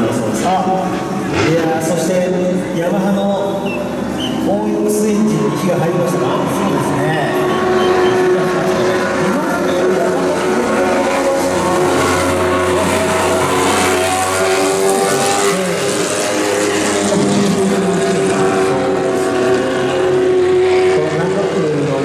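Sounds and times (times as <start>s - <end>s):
racing car engine idling: 0.2s - 22.0s.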